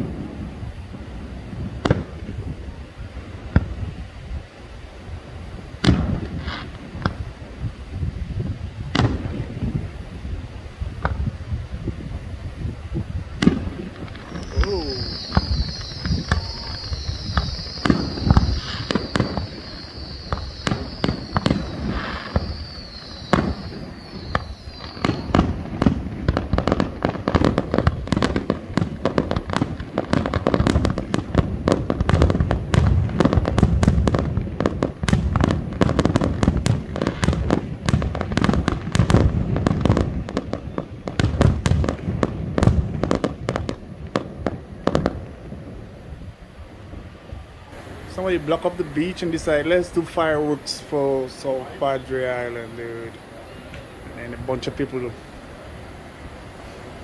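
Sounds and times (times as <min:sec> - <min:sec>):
fireworks bursting: 0:00.0 - 0:57.0
high-pitched hiss: 0:00.0 - 0:57.0.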